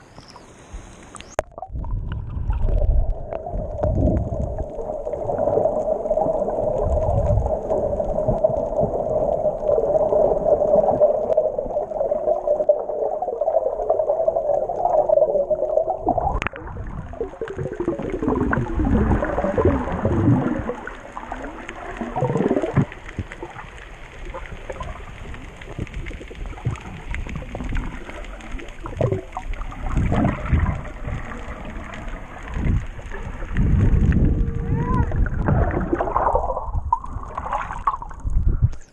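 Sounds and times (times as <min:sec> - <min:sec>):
gurgling water: 0:00.0 - 0:38.9.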